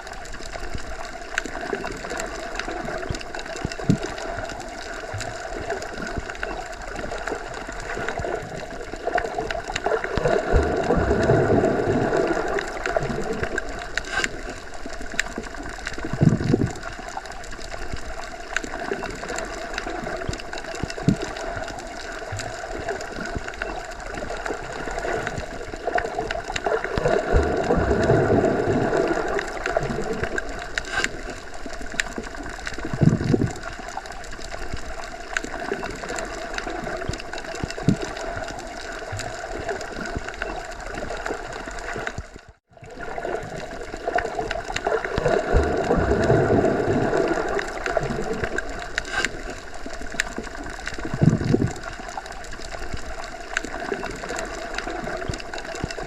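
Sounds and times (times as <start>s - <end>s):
underwater churning wash: 0.0s - 56.0s.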